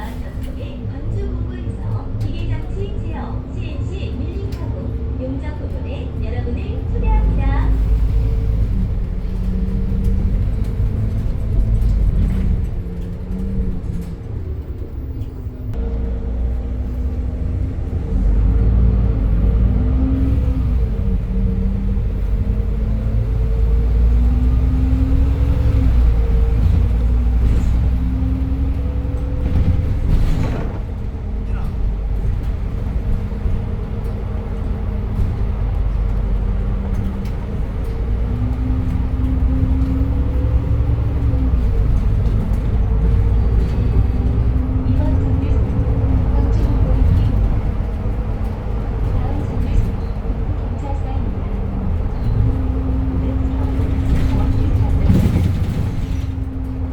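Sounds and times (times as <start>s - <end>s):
bus engine running: 0.0s - 56.9s.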